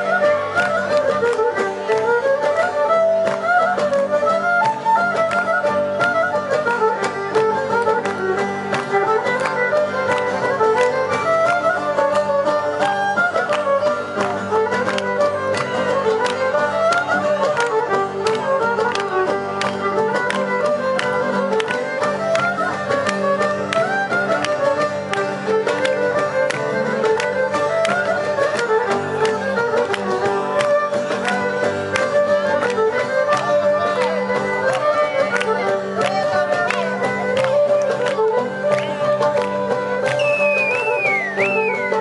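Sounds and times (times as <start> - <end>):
folk dance music with violin: 0.0 - 42.0
hand-clapping on the beat: 0.0 - 42.0.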